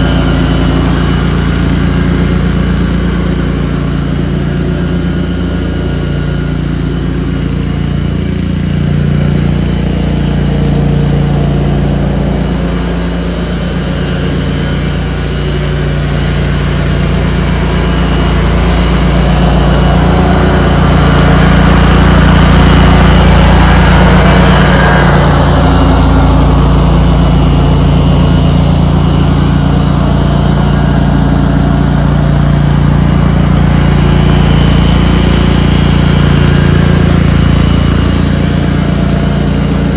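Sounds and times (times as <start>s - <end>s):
lawn tractor engine running: 0.0s - 39.9s
mower cutting grass: 0.0s - 39.9s.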